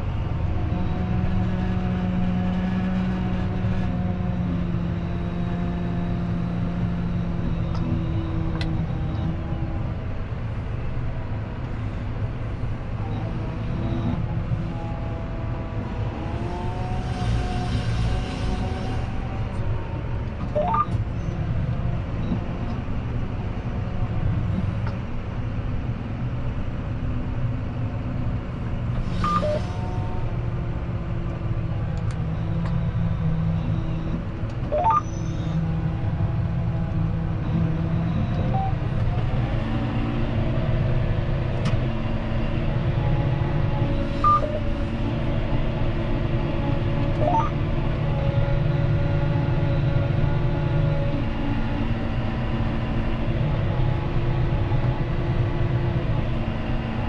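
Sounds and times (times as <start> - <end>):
tractor diesel engine running: 3.4 - 57.0.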